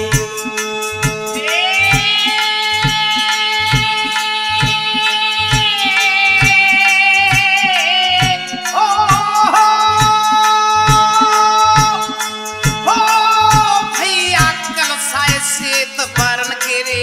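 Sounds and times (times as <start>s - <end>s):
regular drum beat: 0.0s - 17.0s.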